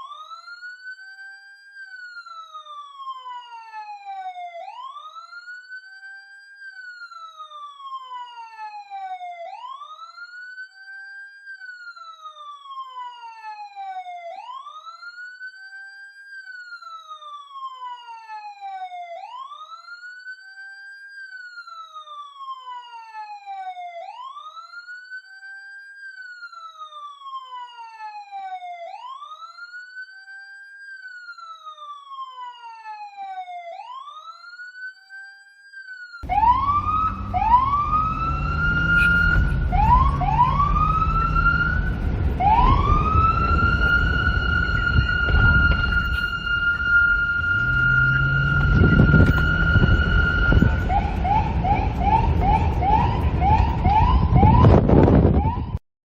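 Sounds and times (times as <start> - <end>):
police siren wailing: 0.0 - 55.8.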